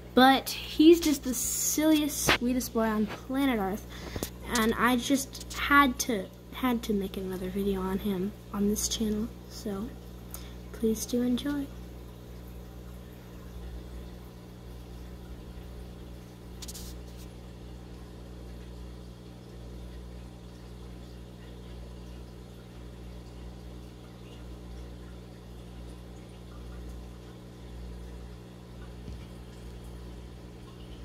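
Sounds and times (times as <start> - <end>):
aquarium equipment humming: 0.0 - 31.0.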